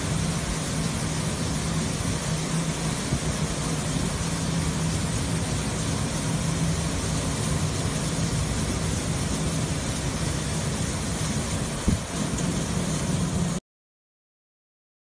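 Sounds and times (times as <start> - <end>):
machinery hum: 0.0 - 13.6
rushing stream of falling granules: 0.0 - 13.6.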